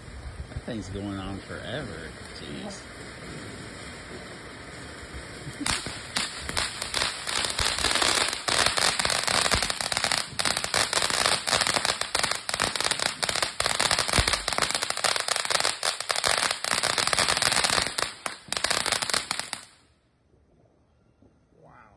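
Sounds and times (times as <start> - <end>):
firework fountain crackling hiss: 0.0 - 19.9.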